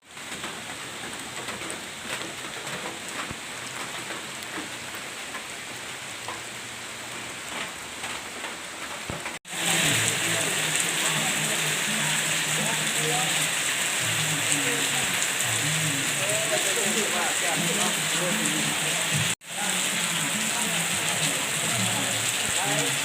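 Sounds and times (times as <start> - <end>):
steady rain falling: 0.0 - 23.0
sharp raindrops striking close: 0.1 - 23.0.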